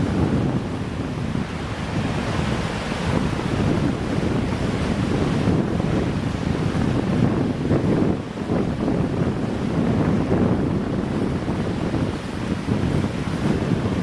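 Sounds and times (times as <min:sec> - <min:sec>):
waves washing on shore: 0:00.0 - 0:14.0
wind buffeting microphone: 0:00.0 - 0:14.0.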